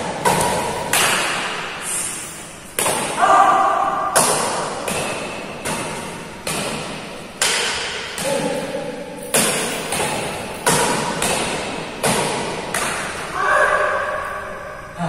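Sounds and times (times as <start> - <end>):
rackets hitting shuttlecock: 0.0 - 1.8, 2.6 - 13.3.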